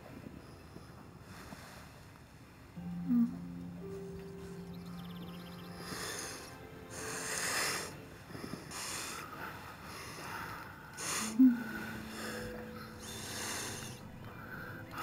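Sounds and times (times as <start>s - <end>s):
soft breaths: 0.0s - 15.0s
soft background music: 2.8s - 15.0s.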